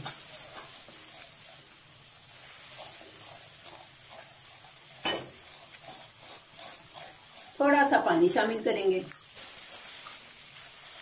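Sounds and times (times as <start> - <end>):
hot oil sizzling: 0.0 - 11.0
wooden spoon scraping: 0.0 - 11.0.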